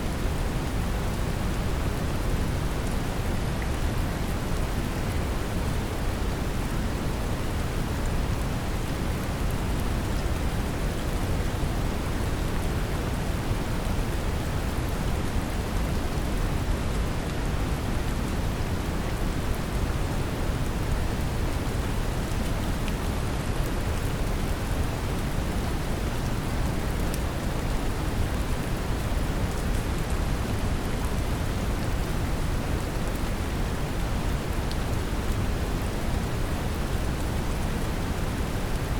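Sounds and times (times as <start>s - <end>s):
gentle rain: 0.0s - 38.9s.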